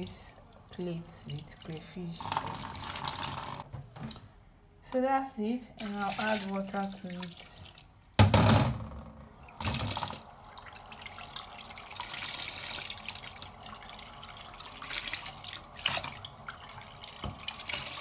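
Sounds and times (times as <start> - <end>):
water pouring into a pot: 0.0 - 3.6, 5.8 - 8.2, 9.4 - 18.0.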